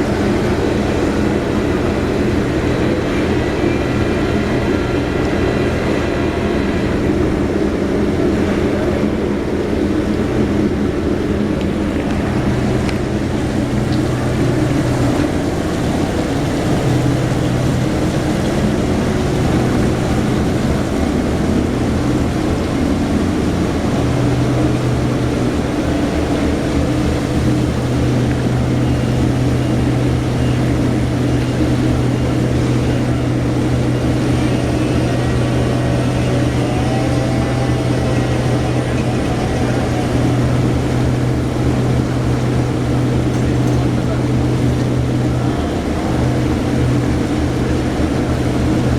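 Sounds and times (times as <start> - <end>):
heavy machinery engine humming: 0.0 - 48.9.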